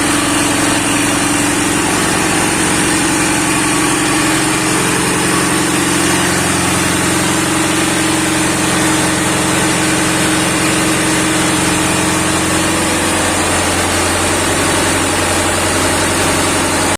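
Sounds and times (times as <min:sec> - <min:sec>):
engine running steadily: 0:00.0 - 0:16.9.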